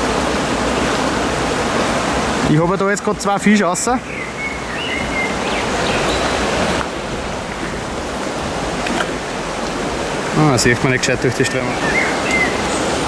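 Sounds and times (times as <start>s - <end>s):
fast-flowing stream rushing: 0.0s - 13.0s.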